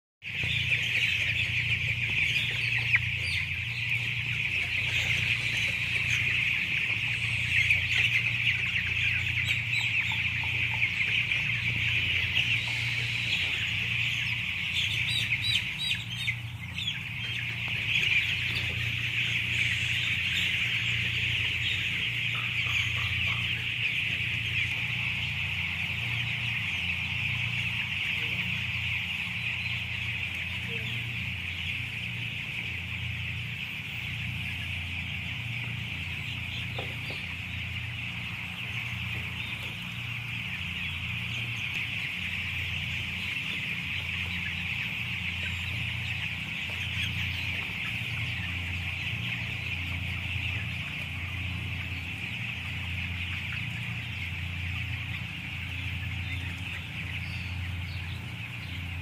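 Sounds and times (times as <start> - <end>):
chicks peeping and cheeping: 0.2 - 59.0
low steady hum: 0.3 - 59.0.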